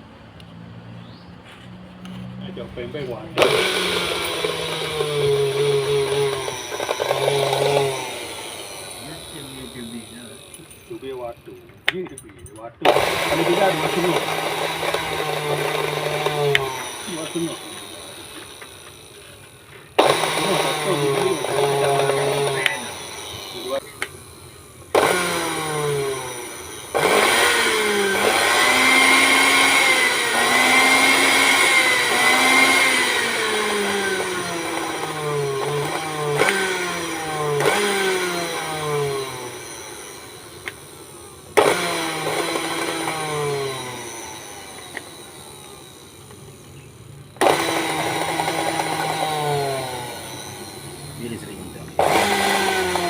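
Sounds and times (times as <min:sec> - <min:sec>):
blender motor running: 0:02.0 - 0:11.4, 0:12.8 - 0:53.0.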